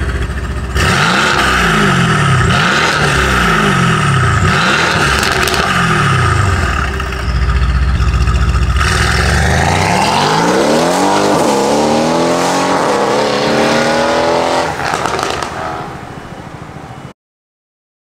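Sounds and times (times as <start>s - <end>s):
car engine accelerating hard: 0.0s - 7.0s, 8.0s - 15.8s.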